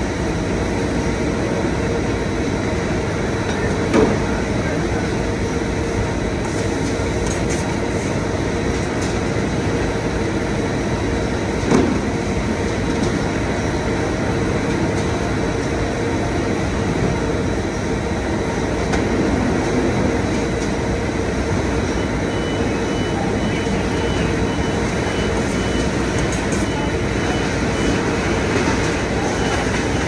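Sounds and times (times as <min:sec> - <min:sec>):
warehouse machinery humming: 0:00.0 - 0:30.0.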